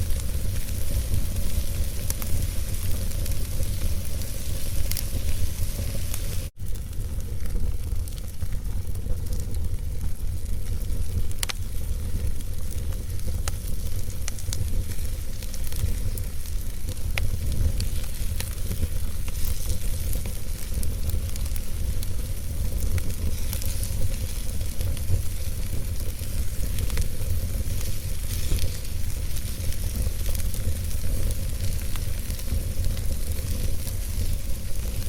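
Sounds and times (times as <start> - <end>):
fire hissing and crackling: 0.0 - 35.0
fire low rumble: 0.0 - 35.0
sharp pops of fire: 0.0 - 35.0.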